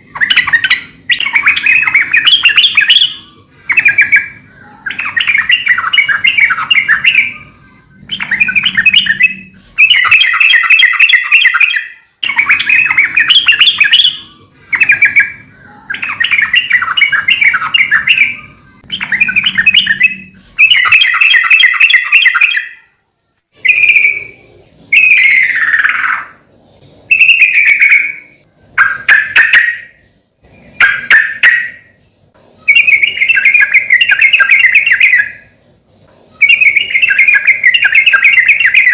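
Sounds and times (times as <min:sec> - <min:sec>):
bulbul chattering song: 0:00.0 - 0:23.0, 0:23.6 - 0:38.9.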